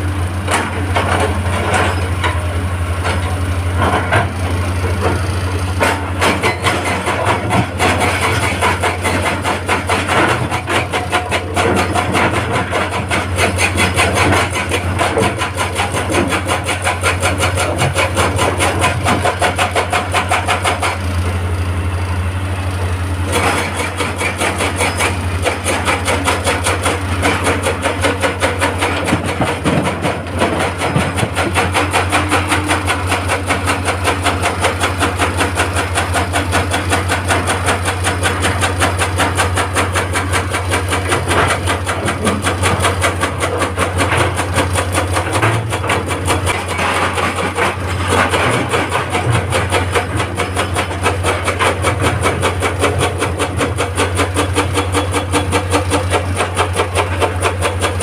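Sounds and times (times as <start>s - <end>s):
excavator diesel engine: 0.0s - 58.0s
hydraulic breaker hammering rock: 0.4s - 21.6s, 22.8s - 58.0s.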